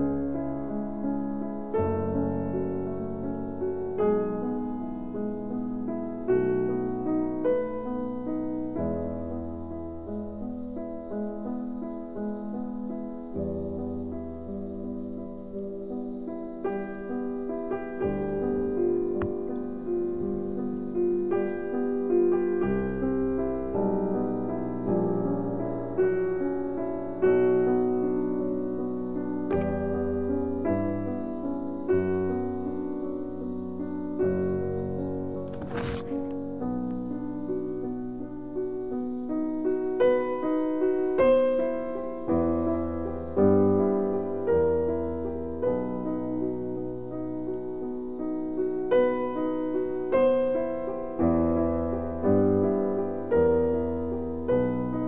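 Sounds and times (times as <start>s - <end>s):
piano slow sustained chords: 0.0s - 55.0s.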